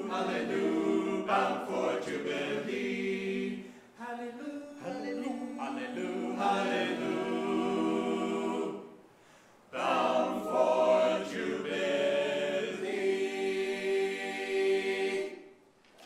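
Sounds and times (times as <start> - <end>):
choir singing a cappella: 0.0 - 15.7.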